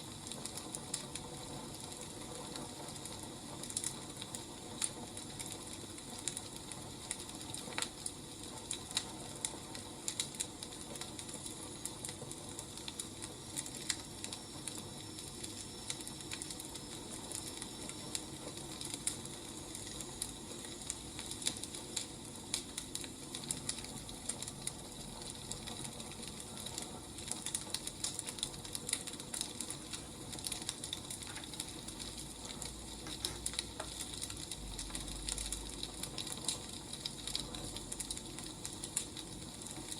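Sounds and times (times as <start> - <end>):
fire hissing: 0.0 - 39.9
firewood crackling and popping: 0.0 - 39.9.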